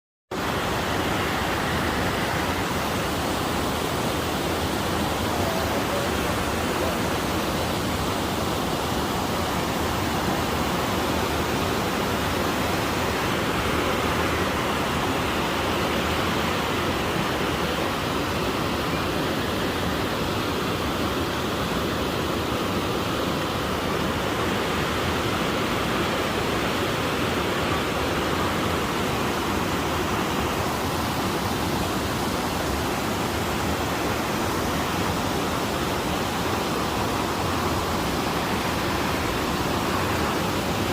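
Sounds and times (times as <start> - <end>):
river water rushing: 0.3 - 40.9.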